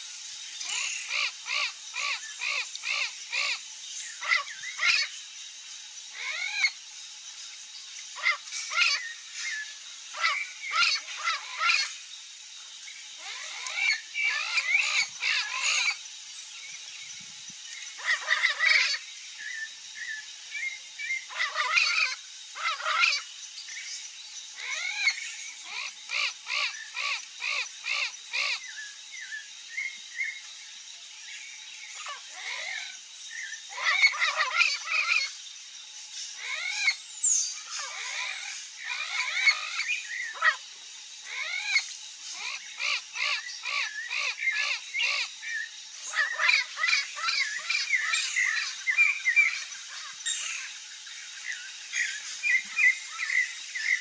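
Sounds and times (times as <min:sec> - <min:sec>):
birds calling harsh repeated notes: 0:00.0 - 0:06.9, 0:07.7 - 0:30.7, 0:31.4 - 0:54.0.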